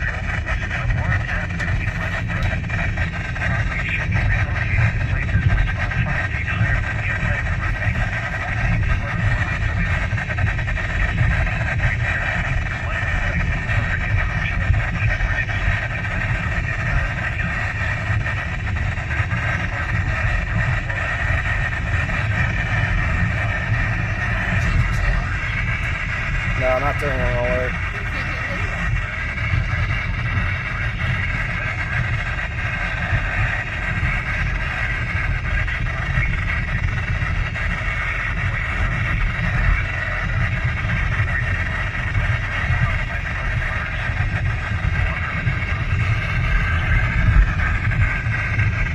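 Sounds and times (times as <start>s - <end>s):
low road noise rumble: 0.0s - 48.9s
radio static hiss: 0.0s - 48.9s.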